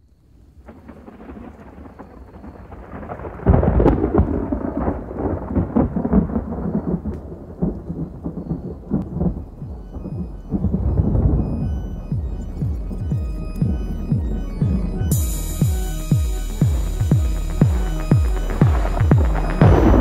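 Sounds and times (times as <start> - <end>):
thunder crackles: 0.5 - 20.0
thunder rumbling: 0.5 - 20.0.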